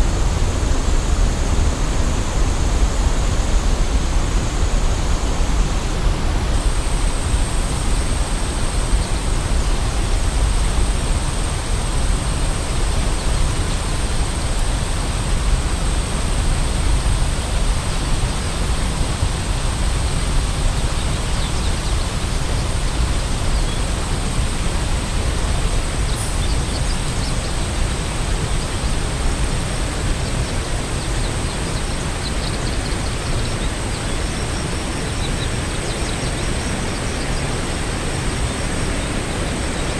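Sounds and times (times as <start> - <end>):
waterfall rushing: 3.2 - 39.9.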